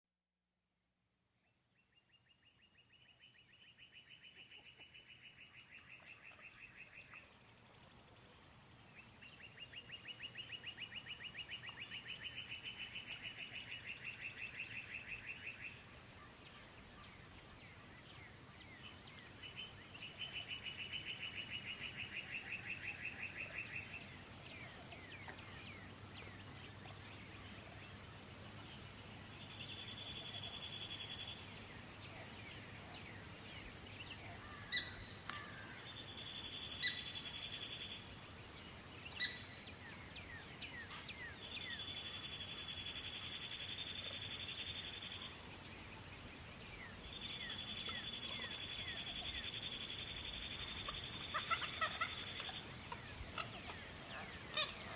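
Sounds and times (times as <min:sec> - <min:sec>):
crickets chirring: 0:01.4 - 0:54.9.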